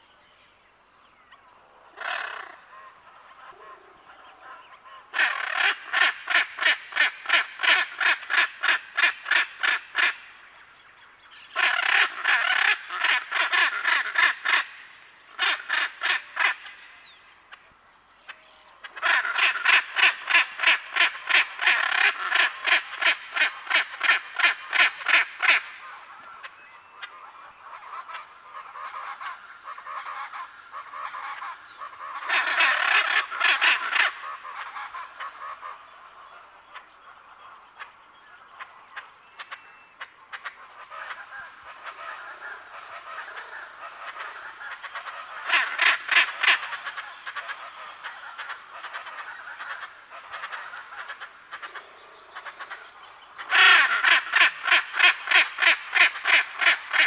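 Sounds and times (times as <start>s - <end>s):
birds calling quietly: 0.0s - 57.0s
macaws calling loudly: 1.3s - 57.0s.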